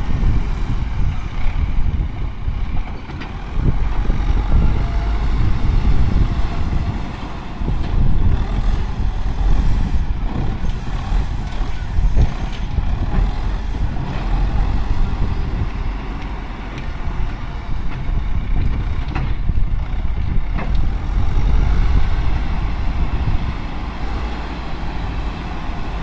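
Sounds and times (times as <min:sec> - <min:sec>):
wheel loader diesel engine revving: 0:00.0 - 0:26.0.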